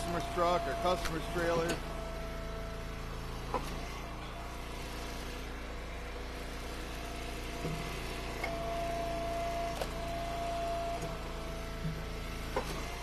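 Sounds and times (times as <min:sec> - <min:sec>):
steady whine: 0:00.0 - 0:12.8
log splitter engine running: 0:00.0 - 0:13.0.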